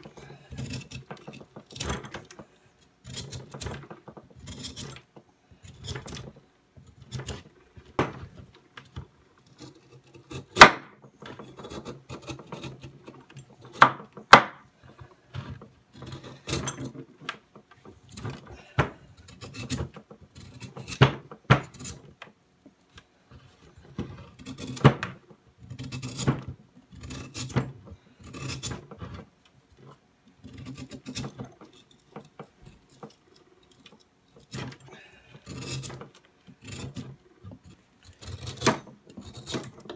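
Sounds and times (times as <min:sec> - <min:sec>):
knife carving wood: 0:00.0 - 0:17.4, 0:18.0 - 0:22.2, 0:22.9 - 0:39.9.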